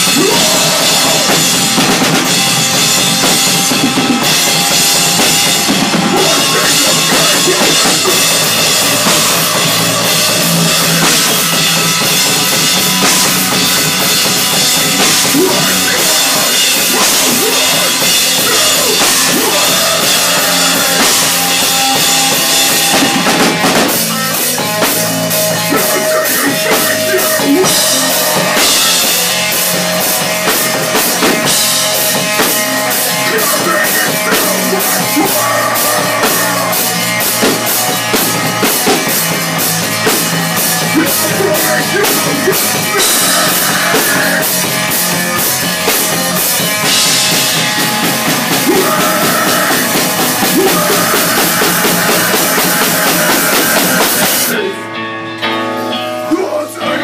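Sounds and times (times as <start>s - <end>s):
pounding drum kit: 0.0s - 54.8s
bass guitar: 0.0s - 57.0s
hardcore band playing live: 0.0s - 57.0s.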